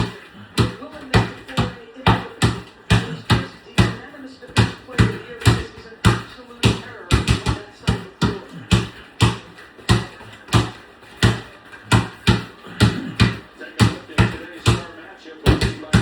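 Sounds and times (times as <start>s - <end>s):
basketball bouncing on hard floor: 0.0s - 16.0s.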